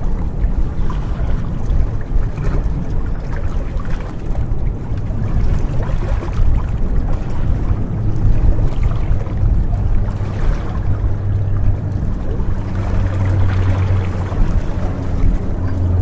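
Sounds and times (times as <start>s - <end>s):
small waves lapping on rocks: 0.0s - 16.0s
steady low rumble: 0.0s - 16.0s.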